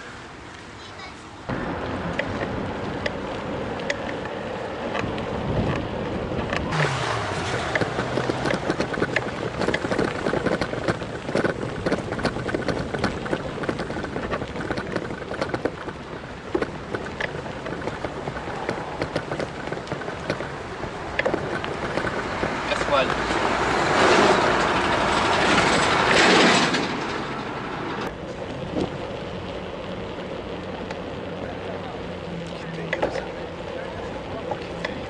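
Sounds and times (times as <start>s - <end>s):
crackling rattle of bicycle: 0.0s - 35.0s
motor vehicle passing: 0.0s - 35.0s
wind rushing over microphone: 1.5s - 32.6s.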